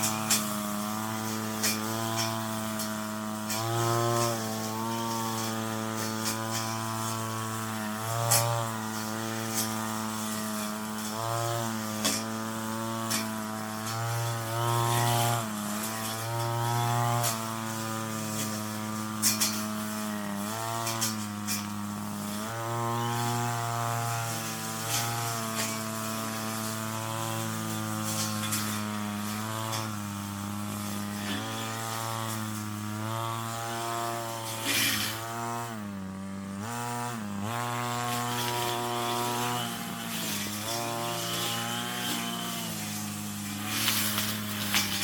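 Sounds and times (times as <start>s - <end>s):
brush cutter engine: 0.0s - 45.0s.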